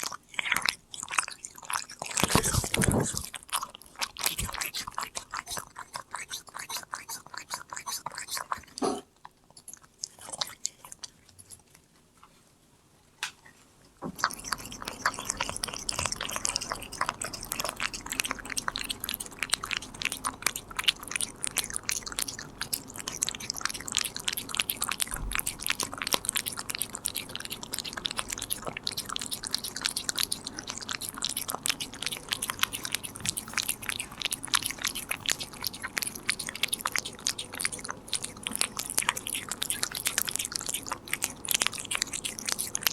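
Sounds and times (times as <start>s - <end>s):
cat chewing a treat: 0.0s - 12.0s, 14.0s - 42.9s.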